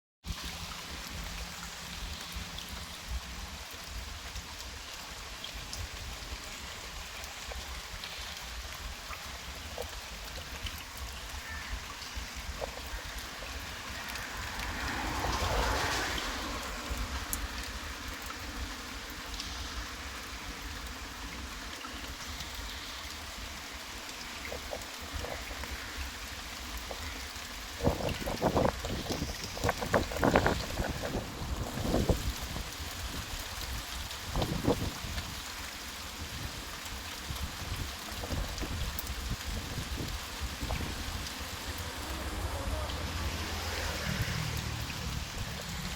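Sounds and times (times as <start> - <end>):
small water splashes: 0.2 - 45.9
water rushing in channel: 0.2 - 45.9.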